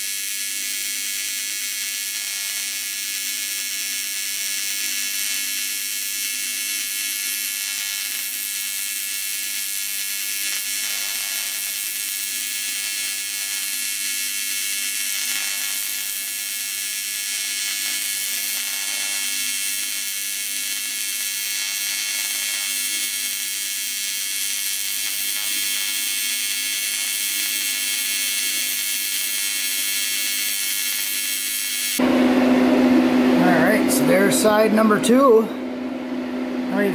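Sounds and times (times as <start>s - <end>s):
welding arc buzzing: 0.0s - 36.9s.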